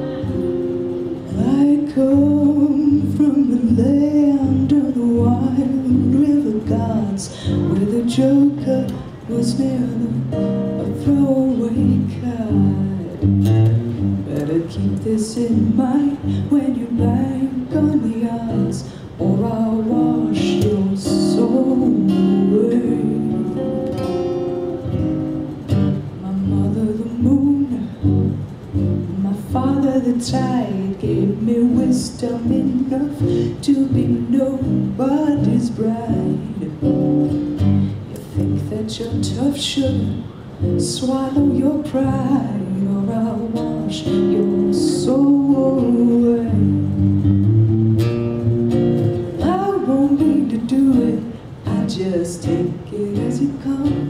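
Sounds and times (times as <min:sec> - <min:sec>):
woman singing folk song: 0:00.0 - 0:48.4, 0:49.0 - 0:54.0
acoustic guitar: 0:00.0 - 0:54.0.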